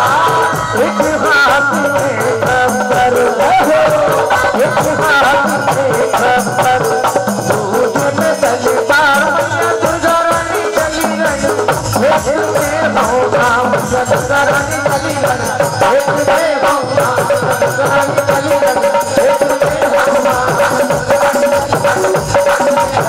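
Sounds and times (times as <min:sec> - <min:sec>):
barrel drum beating fast rhythm: 0:00.0 - 0:23.0.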